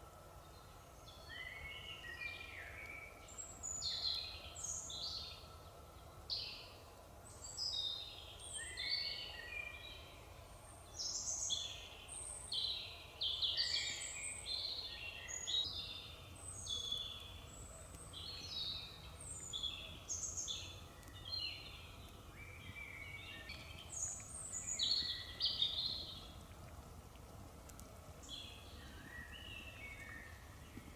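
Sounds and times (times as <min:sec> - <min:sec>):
faint forest background hiss: 0:00.0 - 0:30.9
songbirds singing and chirping: 0:00.0 - 0:30.9.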